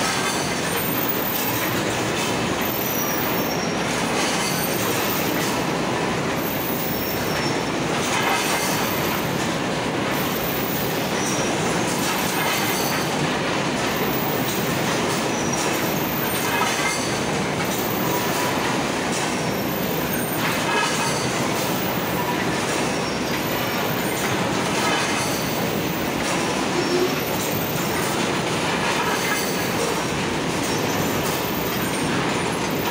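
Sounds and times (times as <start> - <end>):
machines clattering: 0.0 - 32.9.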